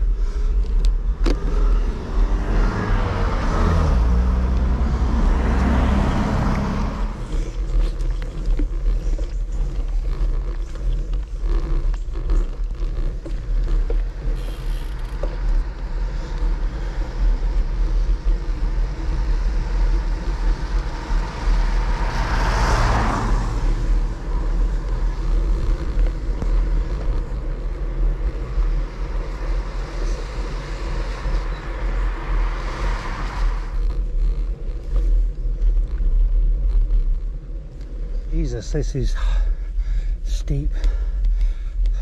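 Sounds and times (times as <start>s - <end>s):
car passing: 0.1s - 11.8s, 12.9s - 41.2s
vehicle passing: 0.2s - 36.7s.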